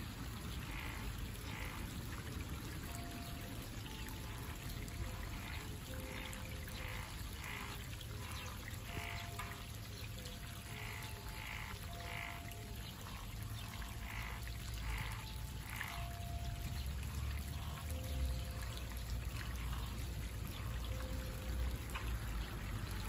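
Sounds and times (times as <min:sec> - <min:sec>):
flowing stream: 0:00.0 - 0:23.0
frogs calling: 0:00.4 - 0:02.1, 0:02.8 - 0:23.0.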